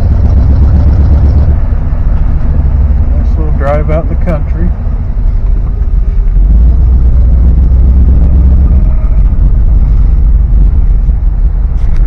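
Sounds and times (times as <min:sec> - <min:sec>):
pickup truck engine rumble: 0:00.0 - 0:12.0
road noise: 0:00.0 - 0:12.0.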